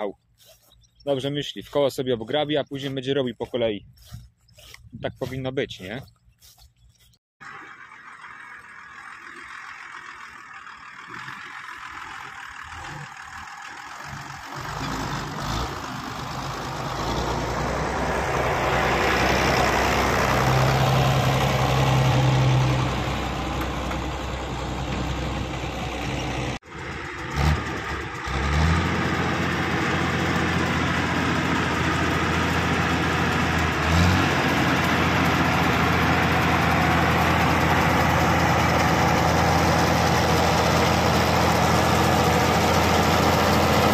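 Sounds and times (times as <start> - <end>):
tractor diesel engine working hard: 0.0 - 43.9.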